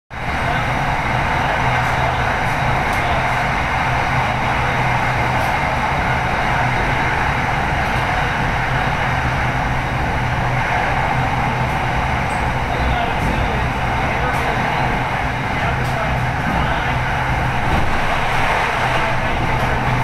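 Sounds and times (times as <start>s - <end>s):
train wheels on rail: 0.1s - 20.0s.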